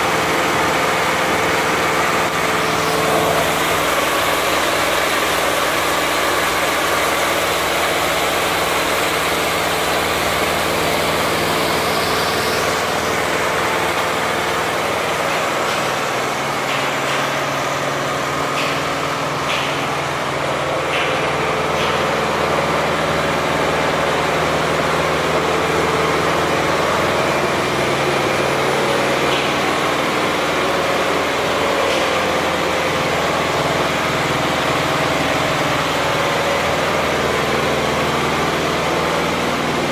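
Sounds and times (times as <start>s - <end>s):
embroidery machine running: 0.0s - 39.9s.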